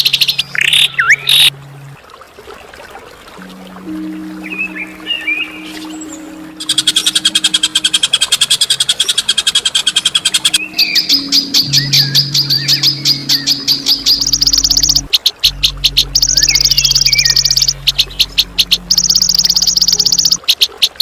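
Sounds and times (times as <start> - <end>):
songbird trilling and chipping: 0.0 - 1.5, 4.4 - 21.0.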